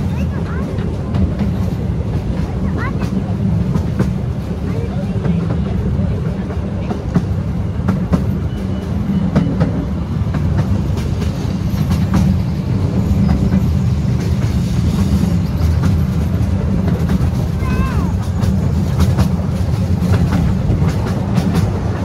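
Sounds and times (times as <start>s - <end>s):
train wheels rumbling on rail: 0.0s - 22.0s
wheels clicking over rail joints: 0.0s - 22.0s.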